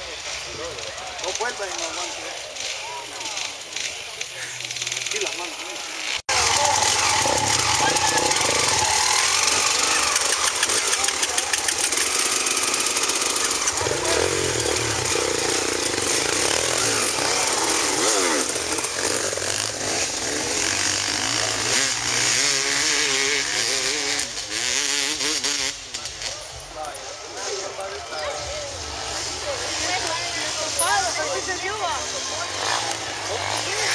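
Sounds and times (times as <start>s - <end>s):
dirt bike engines revving: 0.0s - 33.9s.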